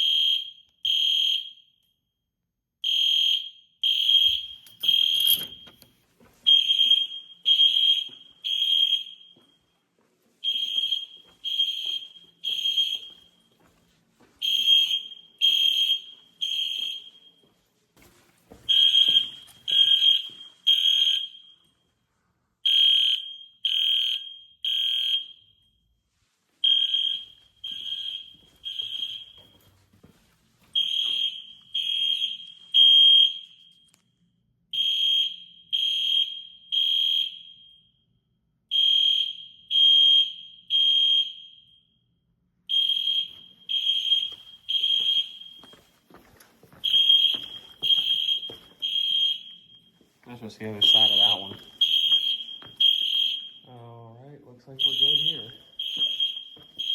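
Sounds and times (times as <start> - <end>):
fire alarm horn blasts: 0.0 - 2.0, 2.8 - 9.8, 10.4 - 13.5, 14.4 - 17.6, 18.6 - 21.9, 22.6 - 25.9, 26.6 - 29.8, 30.8 - 34.1, 34.7 - 46.1, 46.8 - 56.9.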